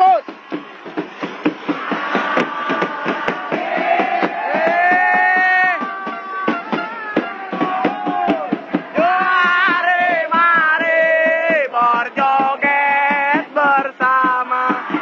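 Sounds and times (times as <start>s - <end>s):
crowd chanting: 0.0s - 15.0s
drum beat: 0.0s - 15.0s.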